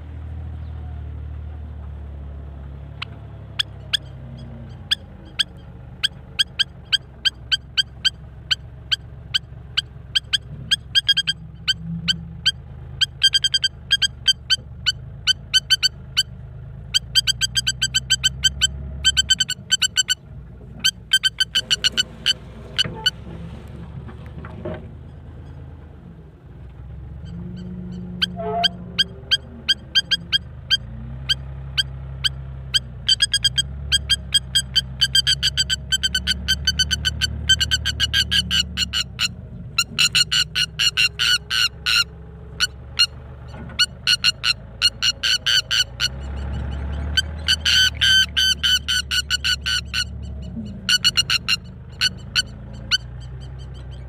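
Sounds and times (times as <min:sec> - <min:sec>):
low steady rumble: 0:00.0 - 0:54.0.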